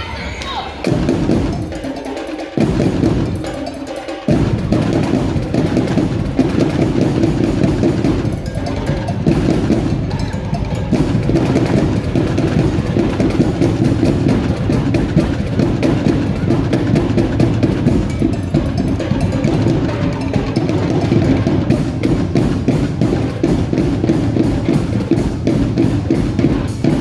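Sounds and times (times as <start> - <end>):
bass drum beats: 0.0 - 27.0
marching band drums: 0.0 - 27.0.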